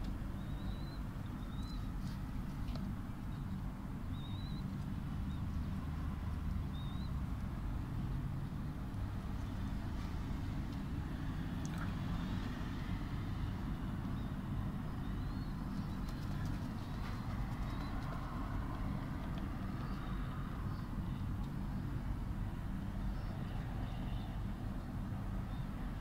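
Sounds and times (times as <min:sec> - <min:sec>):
distant city traffic rumble: 0:00.0 - 0:26.0.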